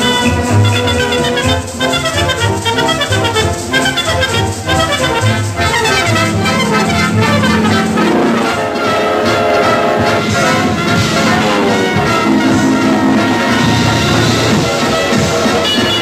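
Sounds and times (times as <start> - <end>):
orchestral brass music: 0.0 - 16.0.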